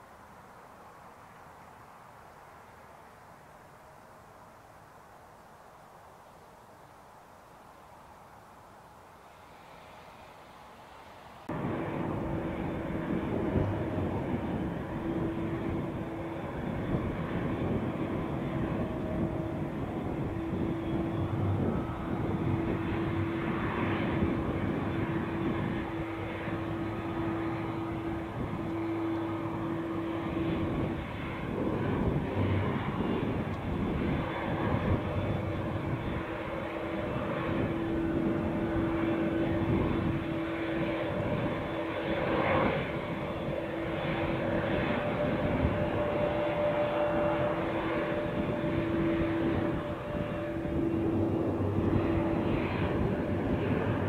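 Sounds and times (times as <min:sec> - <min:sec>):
jet airliner engines humming: 0:00.0 - 0:54.0.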